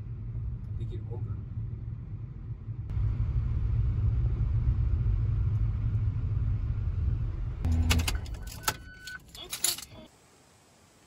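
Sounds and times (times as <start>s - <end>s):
car engine and tyres rumbling: 0.0s - 10.1s.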